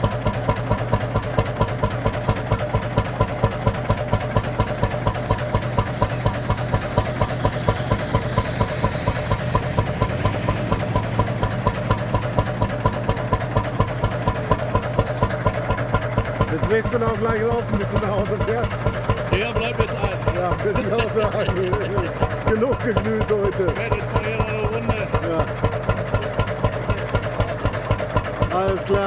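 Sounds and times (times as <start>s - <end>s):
single-cylinder engine idling: 0.0s - 29.0s.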